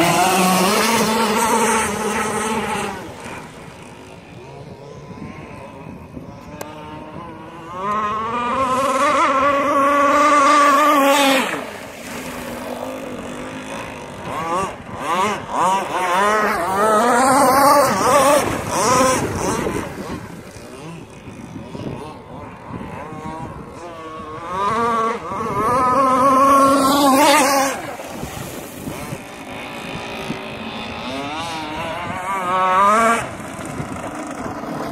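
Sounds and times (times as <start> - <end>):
high buzzing boat engine: 0.0 - 34.9.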